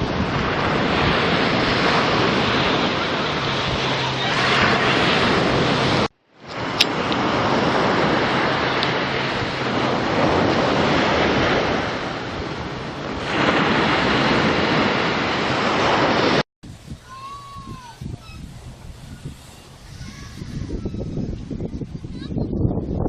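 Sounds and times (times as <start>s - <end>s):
waves breaking over rocks: 0.0s - 20.1s
wind on microphone: 0.0s - 23.0s.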